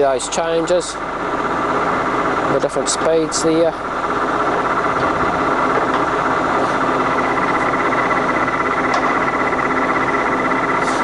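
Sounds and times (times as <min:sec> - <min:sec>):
constant high tone: 0:00.0 - 0:11.0
lathe gear noise: 0:00.0 - 0:11.0.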